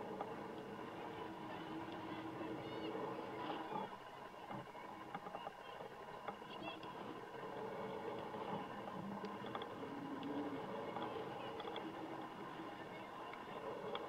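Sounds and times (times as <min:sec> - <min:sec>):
distant voices calling and chattering: 0:00.0 - 0:14.0.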